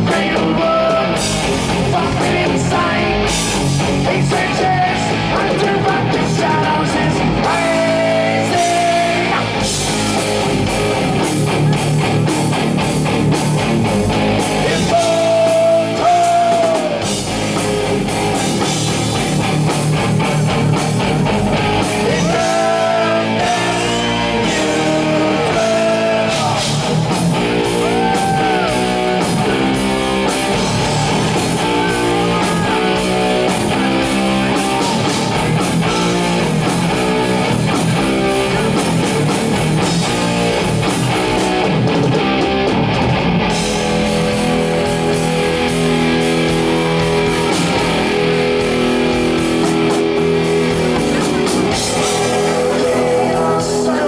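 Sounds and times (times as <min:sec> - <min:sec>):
bass guitar: 0:00.0 - 0:54.0
bending lead guitar notes: 0:00.0 - 0:54.0
distorted electric guitars: 0:00.0 - 0:54.0
drums: 0:00.0 - 0:54.0.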